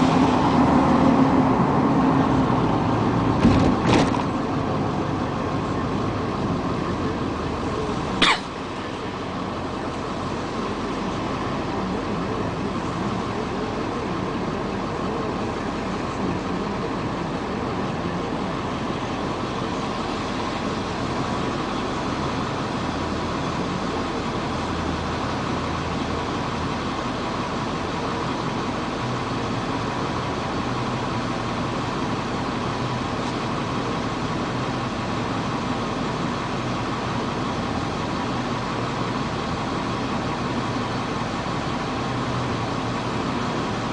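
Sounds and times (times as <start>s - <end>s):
diesel engine droning: 0.0s - 43.9s.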